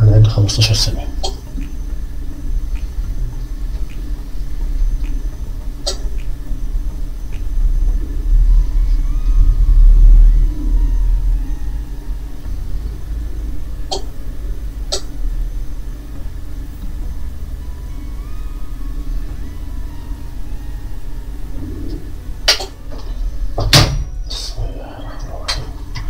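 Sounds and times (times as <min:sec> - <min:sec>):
low rumble and hum: 0:00.0 - 0:26.0.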